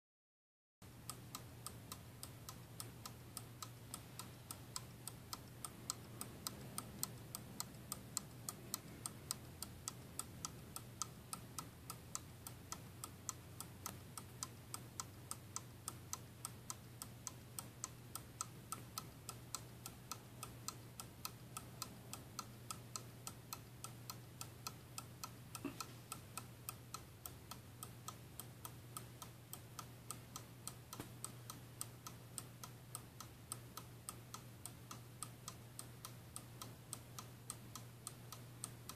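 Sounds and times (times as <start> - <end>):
clock ticking: 0.8 - 38.9.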